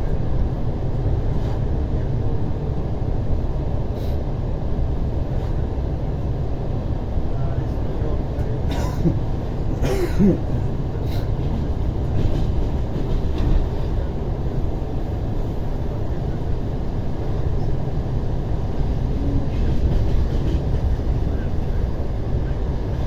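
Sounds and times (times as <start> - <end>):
train carriage rumble: 0.0 - 23.0.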